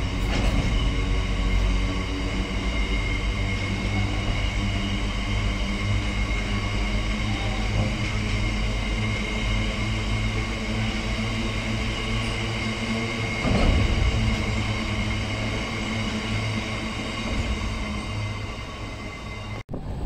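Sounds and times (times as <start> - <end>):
train rumble: 0.0 - 20.0
train wheels hum on rails: 0.0 - 20.0.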